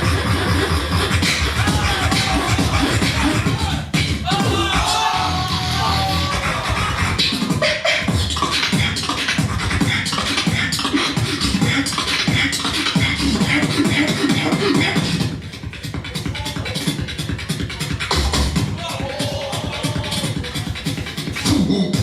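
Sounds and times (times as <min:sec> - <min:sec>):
person beatboxing: 0:00.0 - 0:22.0.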